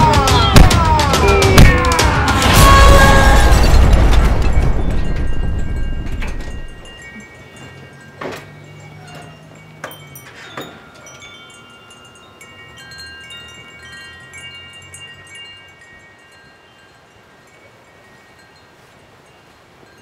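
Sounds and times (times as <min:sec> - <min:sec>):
metal wind chimes ringing: 0:03.5 - 0:20.0.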